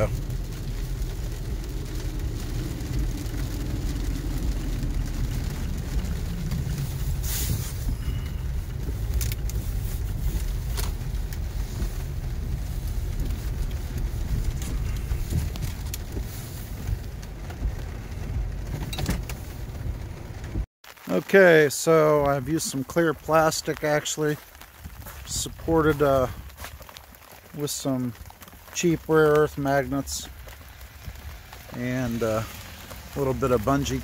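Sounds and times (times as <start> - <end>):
car engine and tyre rumble: 0.0 - 20.7, 21.4 - 34.0.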